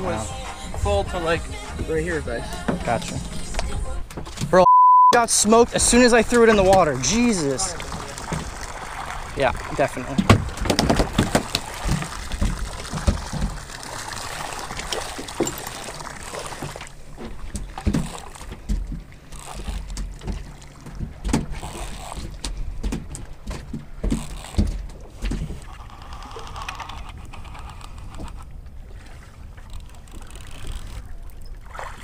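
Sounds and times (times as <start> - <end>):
water lapping against a boat hull: 0.0 - 4.6, 5.4 - 32.0.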